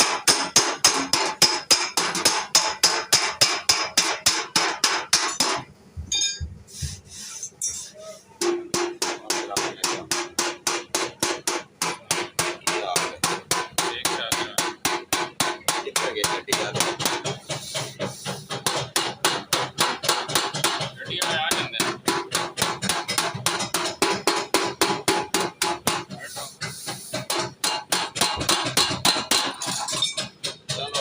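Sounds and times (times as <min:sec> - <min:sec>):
hammer on sheet metal: 0:00.0 - 0:31.0.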